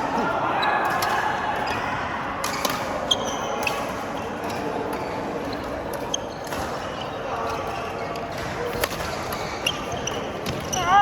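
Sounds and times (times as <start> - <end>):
indoor hall background noise: 0.0 - 11.0
racket hitting shuttlecock: 0.8 - 10.8.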